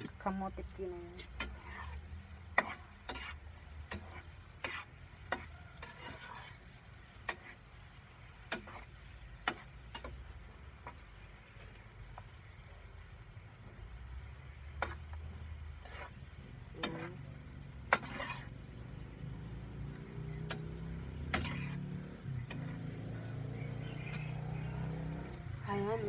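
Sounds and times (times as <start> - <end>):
food frying: 0.0 - 26.0.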